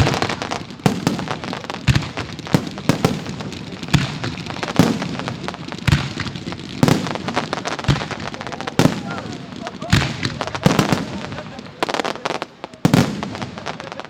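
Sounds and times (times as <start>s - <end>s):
firework booms: 0.0s - 14.0s
rapid crackle of firework pops: 0.0s - 14.0s.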